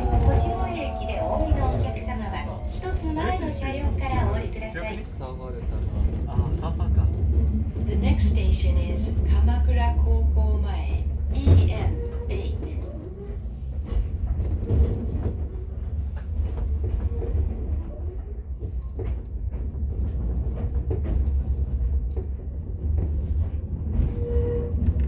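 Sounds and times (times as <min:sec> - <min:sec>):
train rumble from inside carriage: 0:00.0 - 0:25.0.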